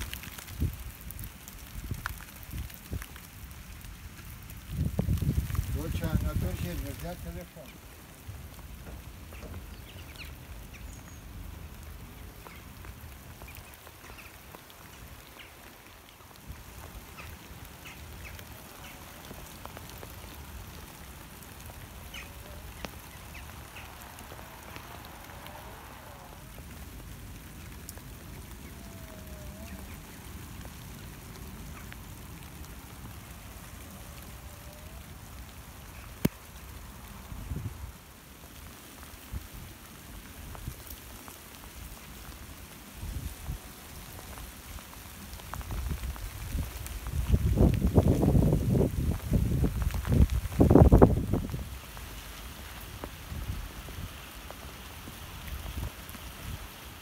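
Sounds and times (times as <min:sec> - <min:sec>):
light rain hiss: 0:00.0 - 0:57.0
rain drop ticks: 0:00.0 - 0:57.0.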